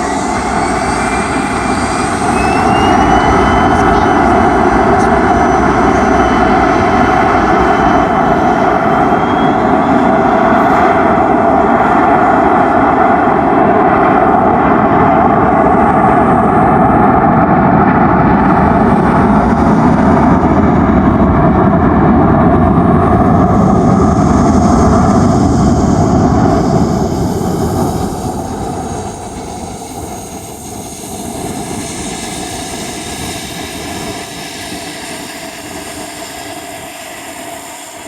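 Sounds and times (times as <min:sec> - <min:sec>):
jet engines at takeoff thrust: 0:00.0 - 0:38.0.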